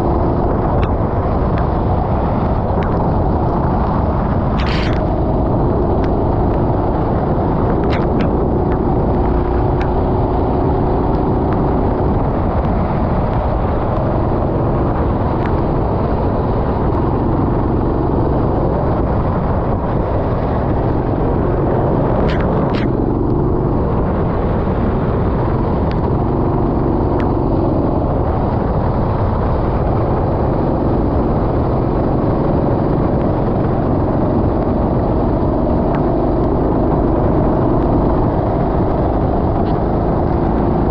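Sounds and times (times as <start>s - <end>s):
go-kart engine racing: 0.0s - 40.9s
road and wind noise: 0.0s - 40.9s.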